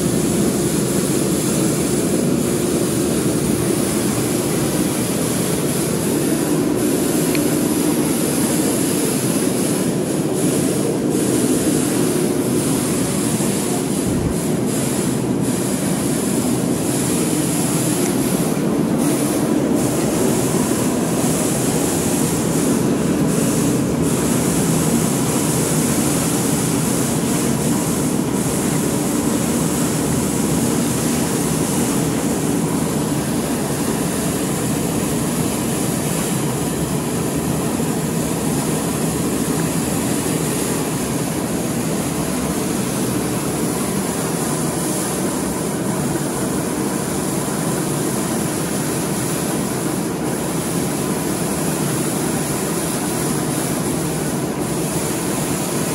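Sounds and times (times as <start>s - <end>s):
grain loader machine noise: 0.0s - 55.9s
hiss of pouring grain: 0.0s - 55.9s.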